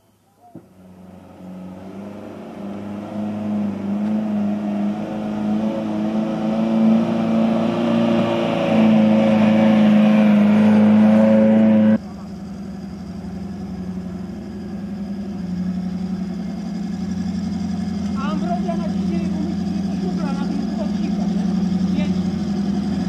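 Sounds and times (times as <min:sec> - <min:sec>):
engine running under load: 0:00.5 - 0:23.0.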